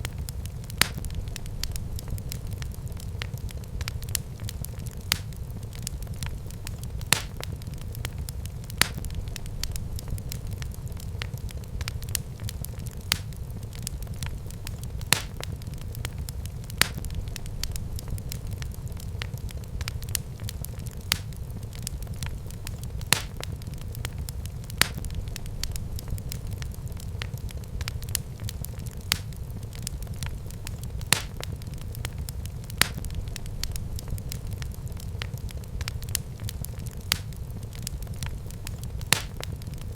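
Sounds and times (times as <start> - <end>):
fire crackling: 0.0 - 39.9
fire flames rumbling: 0.0 - 39.9.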